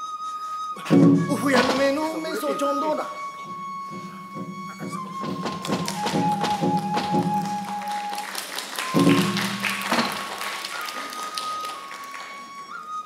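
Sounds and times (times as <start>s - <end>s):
bamboo flute long note: 0.0s - 13.0s.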